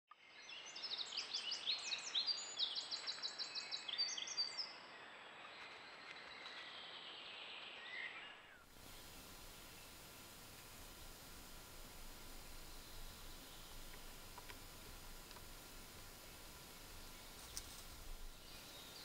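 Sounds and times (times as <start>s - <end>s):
songbirds singing: 0.1s - 19.0s
faint steady hiss: 0.4s - 19.0s.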